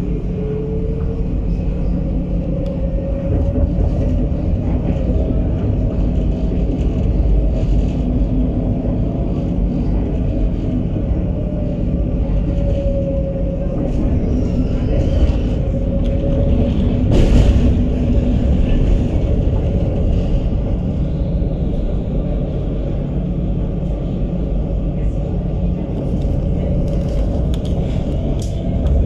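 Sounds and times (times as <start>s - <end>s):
tram rumbling: 0.0s - 29.0s.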